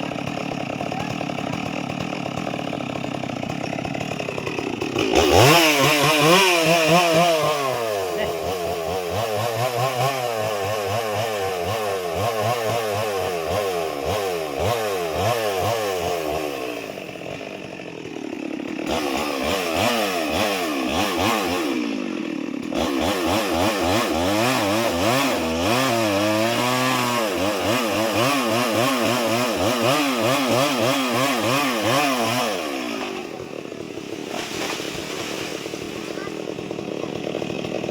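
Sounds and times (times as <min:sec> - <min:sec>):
chainsaw cutting: 0:00.0 - 0:37.9.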